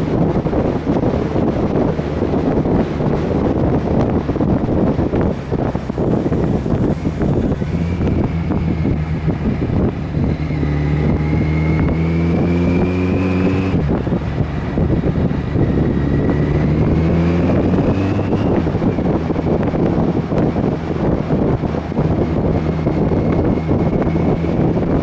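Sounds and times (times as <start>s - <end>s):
motorcycle engine accelerating: 0.0s - 25.0s
wind rushing over microphone: 0.0s - 25.0s.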